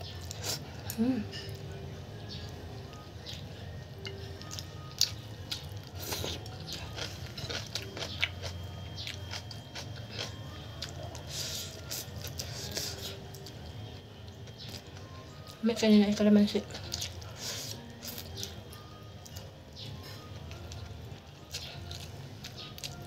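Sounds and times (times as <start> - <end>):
person chewing noodles: 0.0 - 1.0, 2.4 - 15.6, 16.7 - 23.0.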